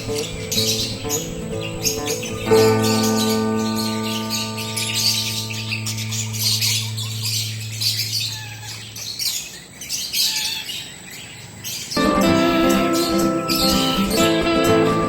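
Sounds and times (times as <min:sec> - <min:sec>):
parrot squawking: 0:00.0 - 0:15.0.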